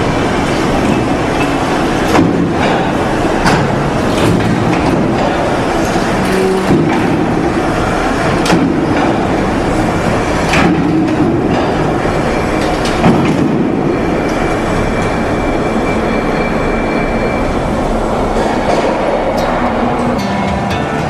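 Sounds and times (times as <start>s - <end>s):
train rumbling along track: 0.0s - 21.0s.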